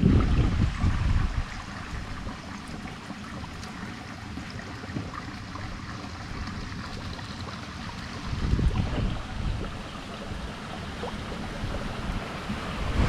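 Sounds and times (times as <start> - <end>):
water lapping and trickling: 0.0 - 13.0.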